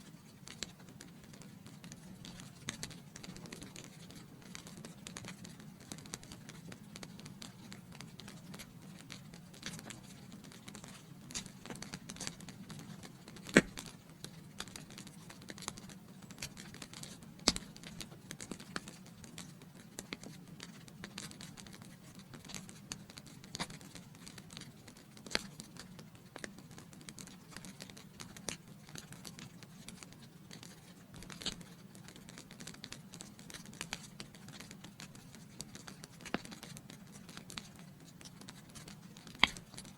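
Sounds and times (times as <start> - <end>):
wood fire crackling: 0.2 - 39.9.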